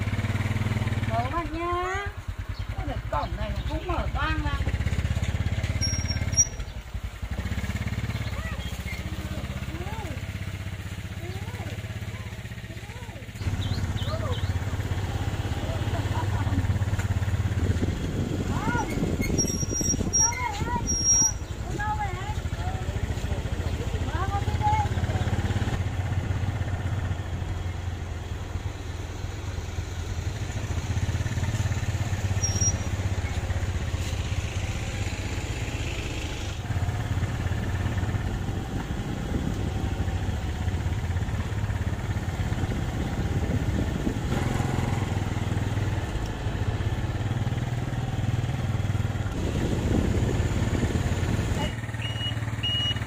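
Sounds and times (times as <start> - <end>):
motorbike engines running: 0.0 - 53.0
road noise: 0.0 - 53.0.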